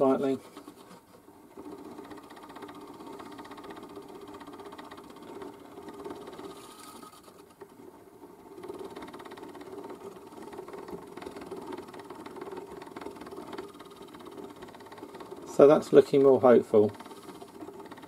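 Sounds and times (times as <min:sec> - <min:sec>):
clockwork gramophone motor buzzing: 0:00.0 - 0:18.0.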